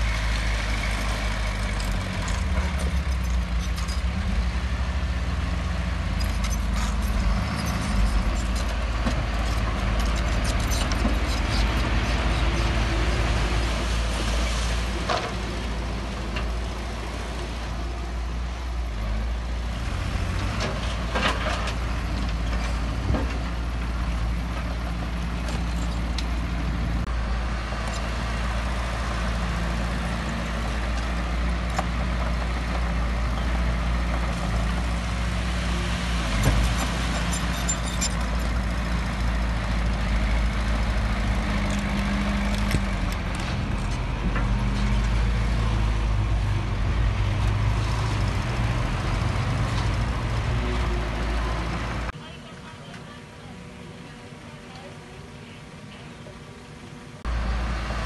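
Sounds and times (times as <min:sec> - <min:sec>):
diesel engines running under load: 0:00.0 - 0:58.0.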